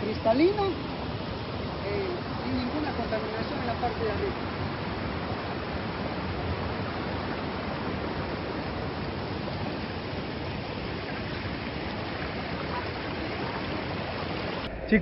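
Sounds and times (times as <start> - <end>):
river water rushing over rocks: 0.0 - 14.8.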